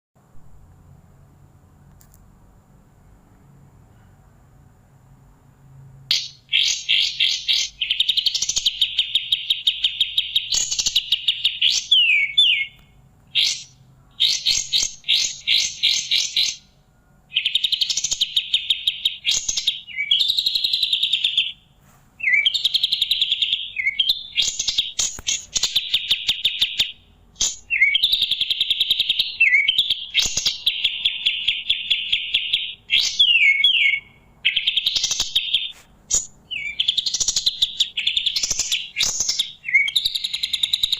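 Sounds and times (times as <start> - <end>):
bird singing fast trills: 6.1 - 40.9.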